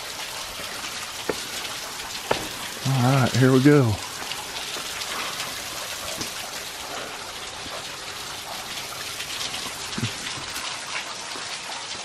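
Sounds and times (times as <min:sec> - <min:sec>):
water splashing over rock: 0:00.0 - 0:10.6.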